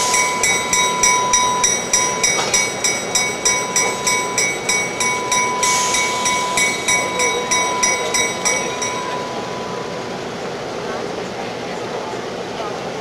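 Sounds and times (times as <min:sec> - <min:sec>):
locomotive bell ringing: 0:00.0 - 0:11.7.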